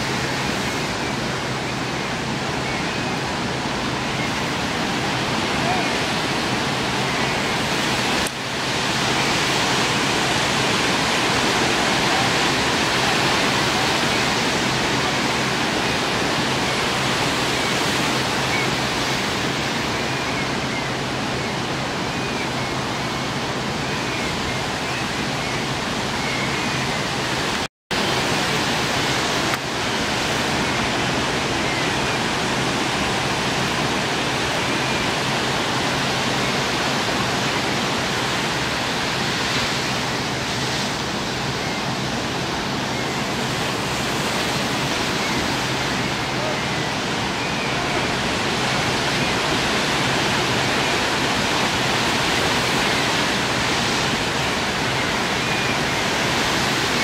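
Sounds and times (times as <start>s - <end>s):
ocean surf rushing: 0.0s - 57.0s.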